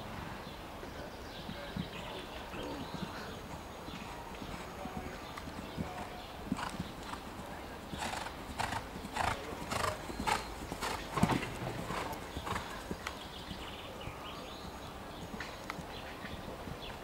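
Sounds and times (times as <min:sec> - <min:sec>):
horse hoofbeats on grass: 0:02.6 - 0:16.9.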